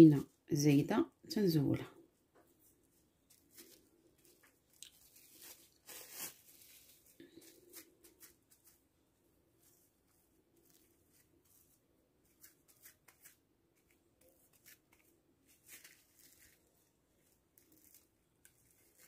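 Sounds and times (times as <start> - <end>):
plastic film crinkling: 2.7 - 19.0.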